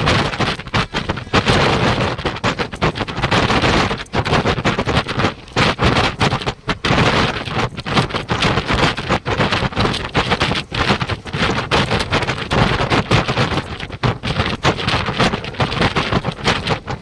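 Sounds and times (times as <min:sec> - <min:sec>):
wind buffeting a microphone: 0:00.0 - 0:17.0.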